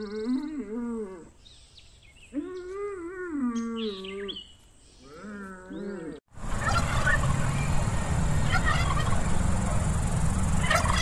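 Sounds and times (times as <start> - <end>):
noisy farmyard background: 0.0 - 11.0.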